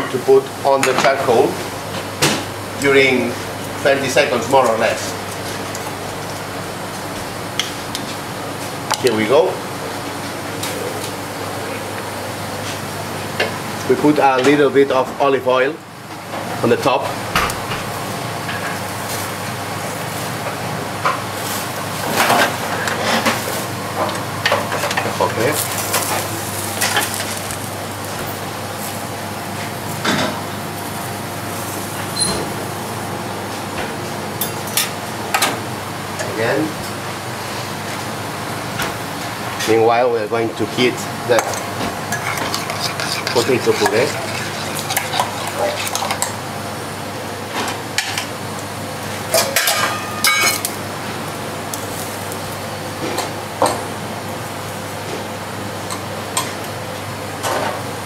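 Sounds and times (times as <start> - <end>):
kitchen ventilation hum: 0.0 - 58.0.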